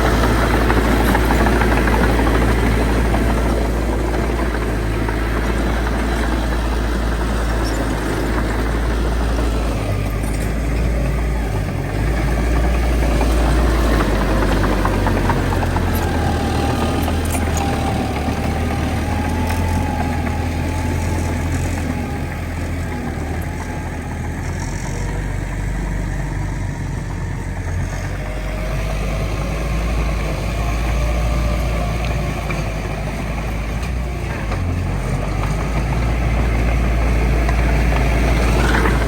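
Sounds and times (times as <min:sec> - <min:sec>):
heavy diesel engines rumbling: 0:00.0 - 0:39.0.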